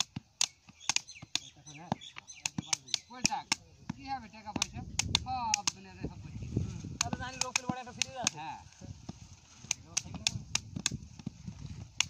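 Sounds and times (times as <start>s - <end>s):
hand tools striking soil: 0.0s - 6.2s, 6.8s - 12.0s.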